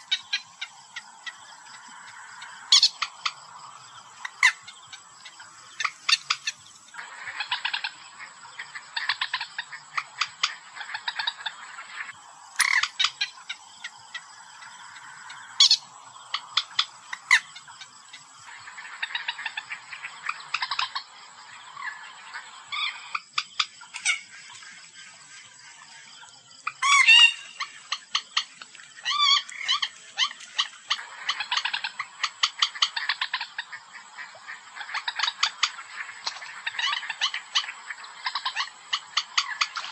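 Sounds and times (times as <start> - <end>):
moorhen chattering calls: 0.0 - 25.1, 26.6 - 39.9.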